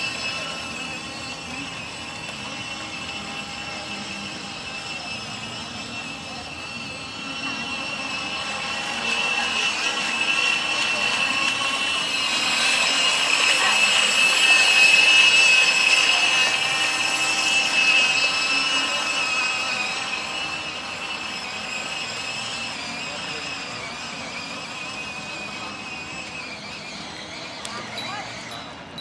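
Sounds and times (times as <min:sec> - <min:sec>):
model boat motor whining: 0:00.0 - 0:29.0.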